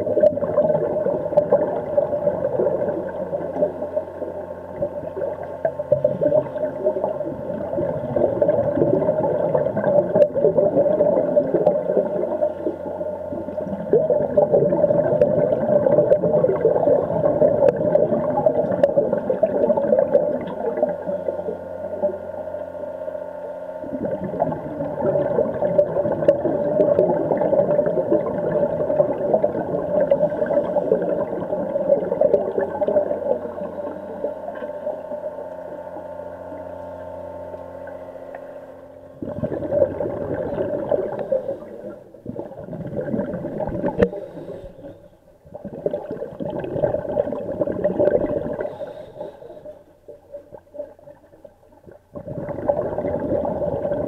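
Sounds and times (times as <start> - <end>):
diver's bubbles: 0.0 - 21.3, 23.8 - 35.4, 39.1 - 49.0, 50.0 - 54.0
underwater hum: 0.0 - 54.0
water churning and gurgling: 0.0 - 54.0.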